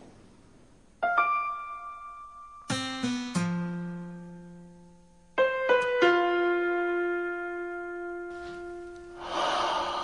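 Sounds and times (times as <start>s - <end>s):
soft piano music: 1.0s - 10.0s.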